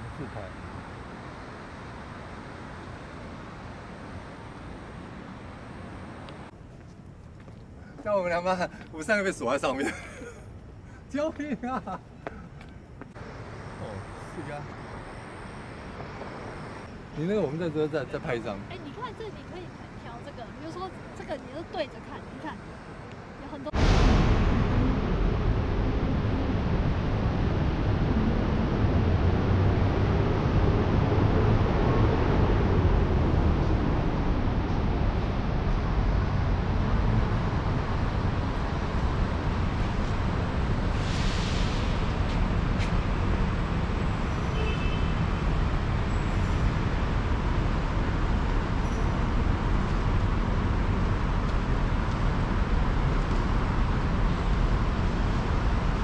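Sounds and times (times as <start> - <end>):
road vehicle rumble and hiss: 0.0 - 11.2, 11.8 - 24.0, 24.8 - 56.0.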